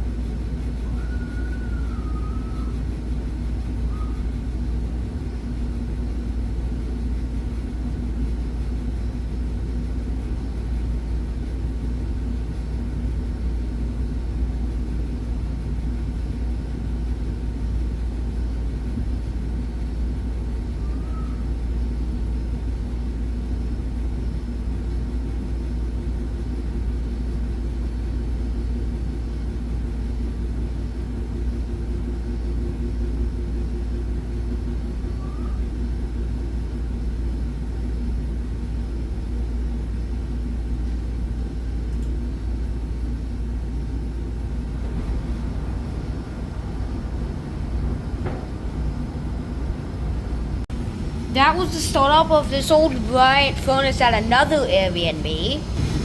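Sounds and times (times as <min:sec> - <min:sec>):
constant hum: 0:00.0 - 0:56.0
gas furnace burners rumbling: 0:00.0 - 0:56.0.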